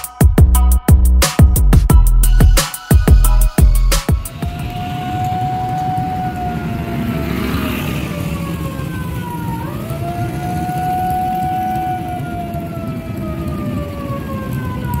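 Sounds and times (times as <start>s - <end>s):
low traffic rumble: 0.4s - 15.0s
level crossing warning siren wailing: 2.2s - 15.0s.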